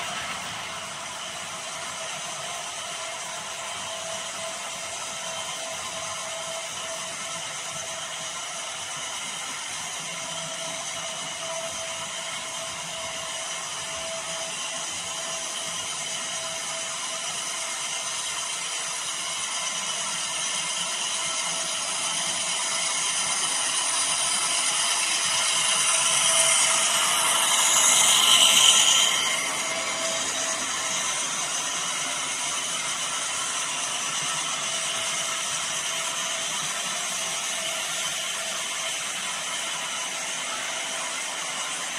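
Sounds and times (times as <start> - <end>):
model train whirring and clattering: 0.0 - 41.9.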